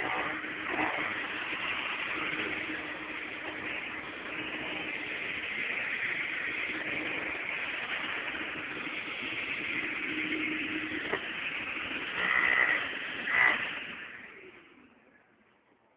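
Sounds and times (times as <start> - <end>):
shop vacuum blowing air: 0.0 - 14.5.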